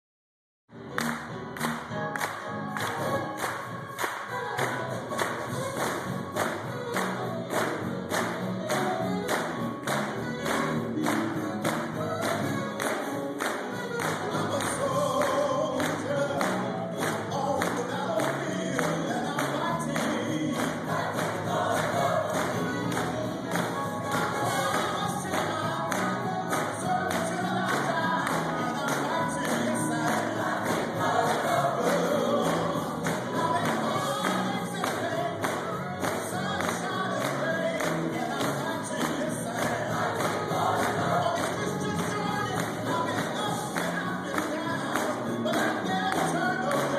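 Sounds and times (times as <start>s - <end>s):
gospel choir singing: 1.9s - 46.9s.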